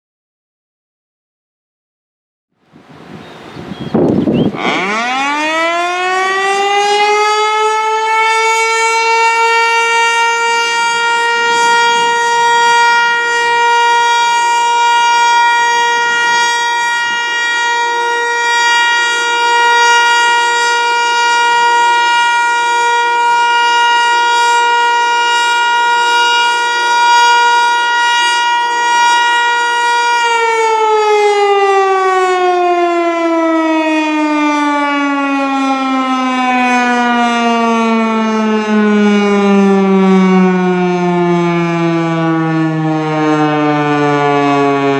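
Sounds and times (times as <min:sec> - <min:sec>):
outdoor warning siren: 0:02.6 - 0:44.9.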